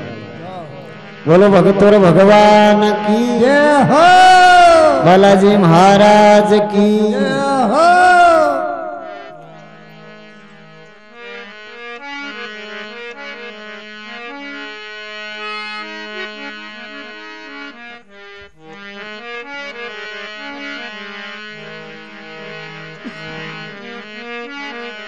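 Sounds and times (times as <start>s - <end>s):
reed-toned keyboard melody: 0.0s - 25.0s.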